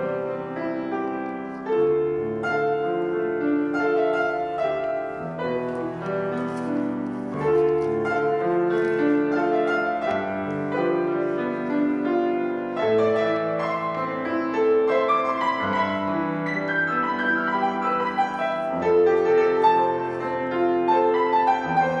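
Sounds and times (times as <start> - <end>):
solo piano piece: 0.0 - 22.0.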